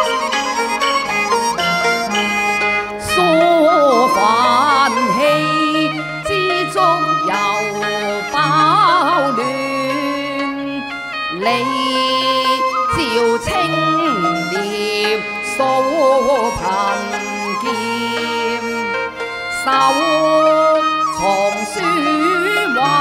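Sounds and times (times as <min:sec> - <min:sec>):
opera ensemble instrumental melody: 0:00.0 - 0:23.0.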